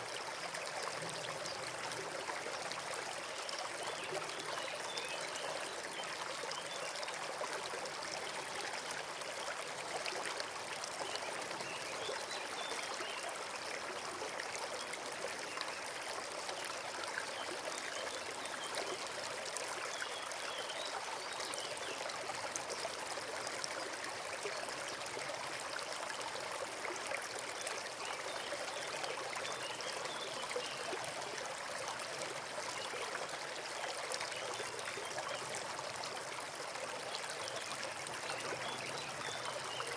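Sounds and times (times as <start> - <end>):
brook running and trickling: 0.0 - 39.9.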